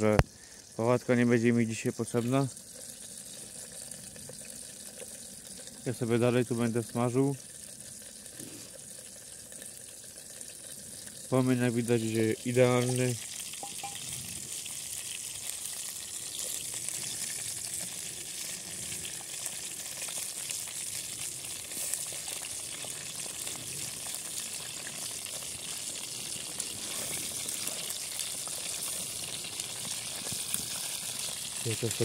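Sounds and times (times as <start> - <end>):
chicken wings sizzling: 0.0 - 32.0.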